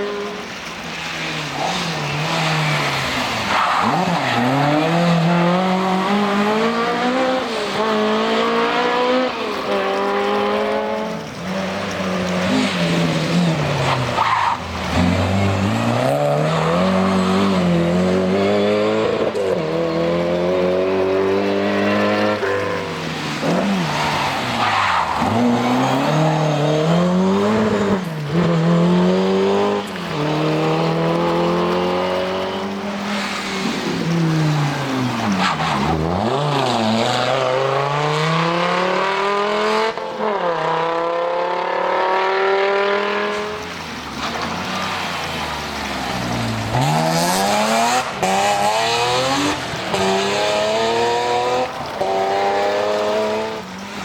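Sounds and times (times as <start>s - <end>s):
rally car engine at full load: 0.0s - 54.0s.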